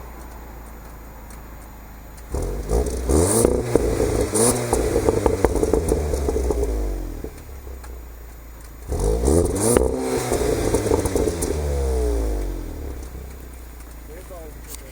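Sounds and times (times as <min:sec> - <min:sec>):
car engine revving: 0:00.0 - 0:14.9
exhaust crack: 0:00.0 - 0:14.9.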